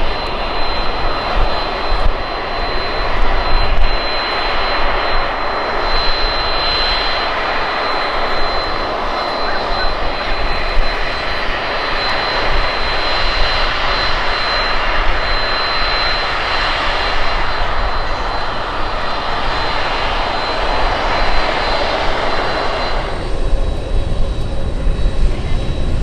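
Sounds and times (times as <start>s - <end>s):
aircraft turbine engines roaring: 0.0s - 26.0s
turbine high whine: 0.0s - 26.0s.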